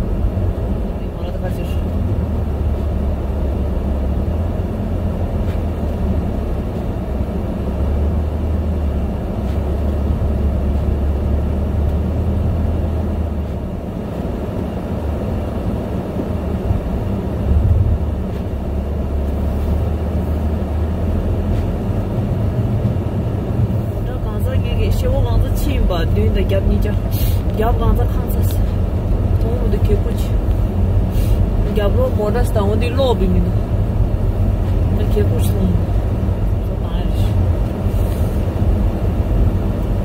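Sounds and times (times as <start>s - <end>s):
car cabin road and engine rumble: 0.0s - 40.0s
tyres on snowy road: 0.0s - 40.0s.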